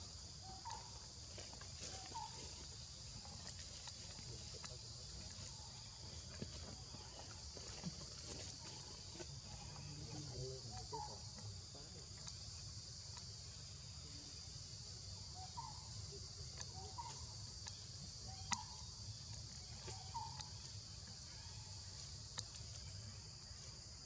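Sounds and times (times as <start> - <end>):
high insect chorus: 0.0 - 24.0.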